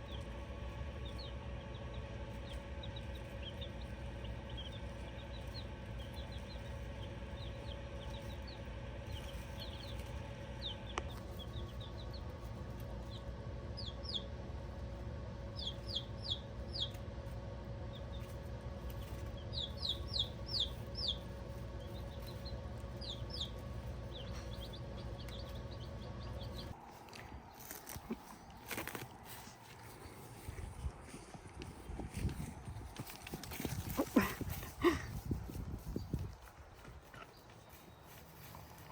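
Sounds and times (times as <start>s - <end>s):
baby chicks peeping: 0.0s - 38.9s
steady low hum: 0.0s - 38.9s.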